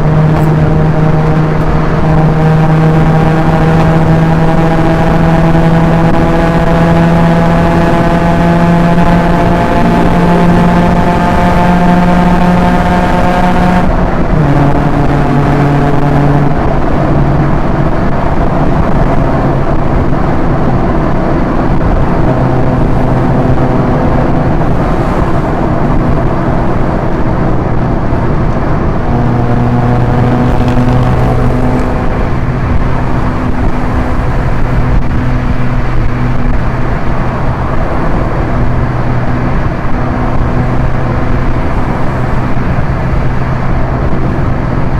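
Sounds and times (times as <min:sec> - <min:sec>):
car engine accelerating: 0:00.0 - 0:44.9
road and wind noise: 0:00.0 - 0:44.9.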